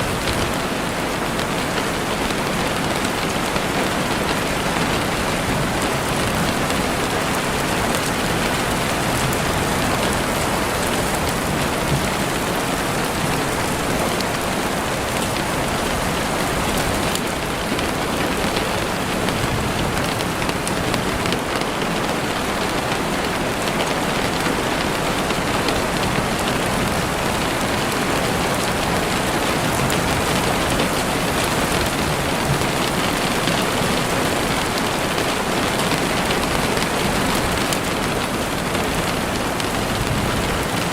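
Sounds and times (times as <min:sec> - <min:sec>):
rain falling through trees: 0:00.0 - 0:40.9.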